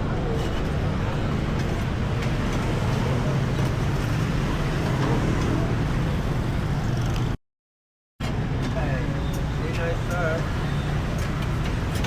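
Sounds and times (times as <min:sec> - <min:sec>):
city street traffic: 0:00.0 - 0:07.4, 0:08.2 - 0:12.0.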